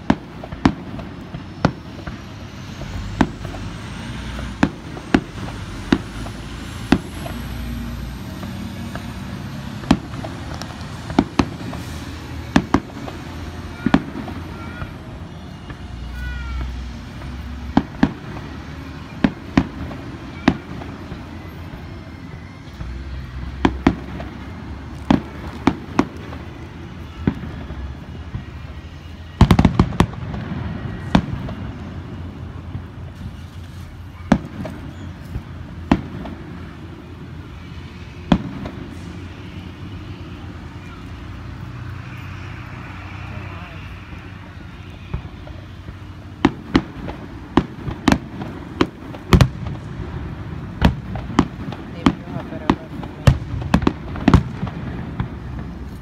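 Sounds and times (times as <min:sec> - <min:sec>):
fireworks booming: 0:00.0 - 0:56.0.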